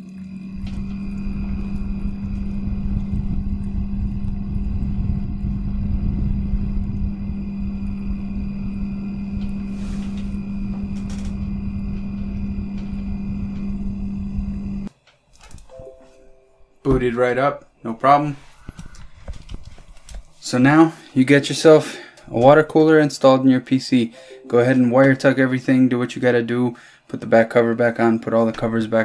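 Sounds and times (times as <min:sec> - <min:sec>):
computer fans and pump humming: 0:00.0 - 0:15.9, 0:16.9 - 0:29.0.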